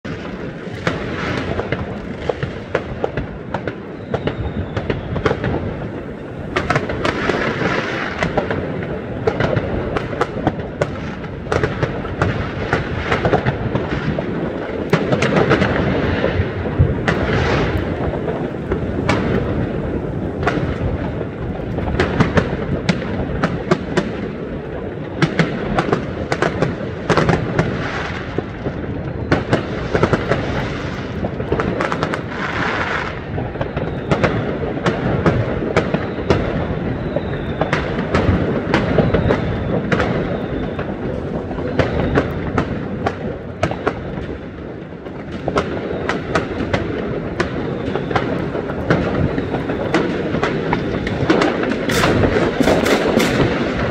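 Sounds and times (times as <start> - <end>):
distant explosions rumbling: 0.0 - 53.9
fireworks bangs and crackles: 0.0 - 53.9.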